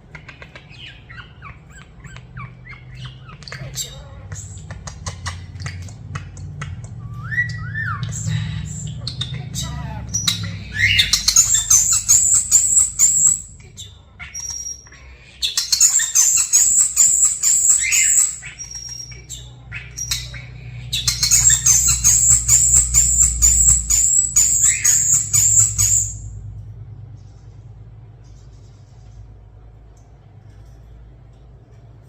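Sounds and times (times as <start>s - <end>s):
starling singing: 0.0s - 26.4s.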